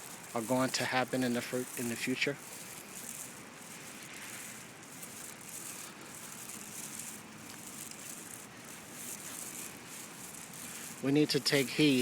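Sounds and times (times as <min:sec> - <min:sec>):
soft rustling: 0:00.0 - 0:12.0
steady hiss: 0:00.0 - 0:12.0.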